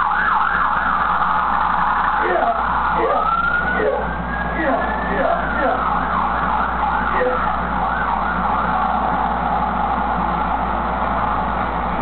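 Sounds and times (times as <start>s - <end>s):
low electrical hum: 0.0s - 12.0s
sirens wailing: 0.0s - 12.0s.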